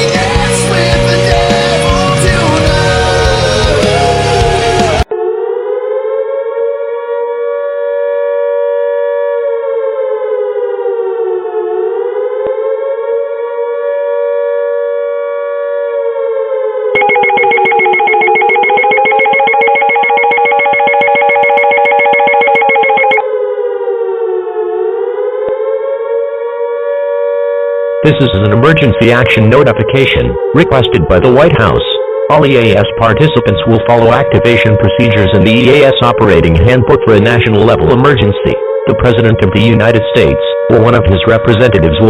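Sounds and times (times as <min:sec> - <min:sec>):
rapidly pulsing alarm tone: 0:00.0 - 0:42.0
electronic alert siren: 0:01.2 - 0:42.0.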